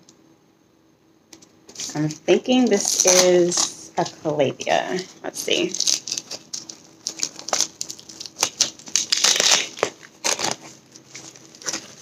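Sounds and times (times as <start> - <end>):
foam wrap crinkling and rustling: 1.7 - 12.0.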